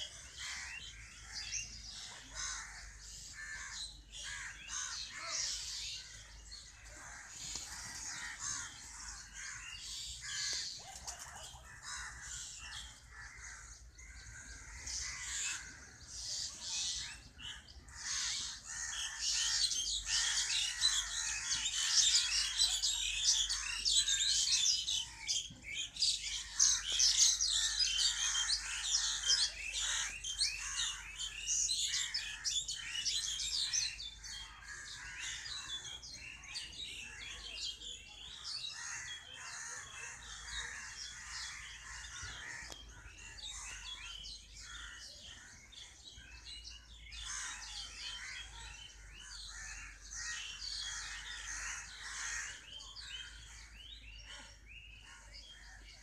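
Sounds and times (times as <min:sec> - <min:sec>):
small birds chirping and twittering: 0:00.0 - 0:56.0.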